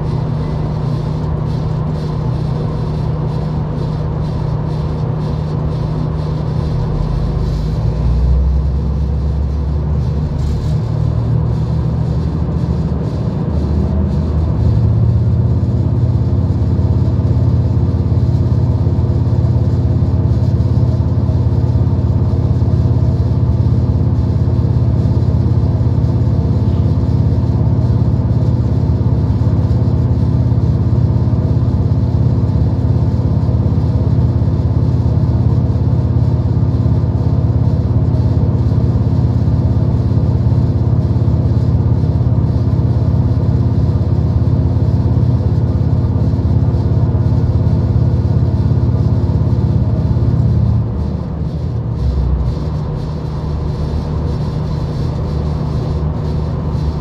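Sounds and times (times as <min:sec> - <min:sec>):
diesel train low drone: 0:00.0 - 0:57.0.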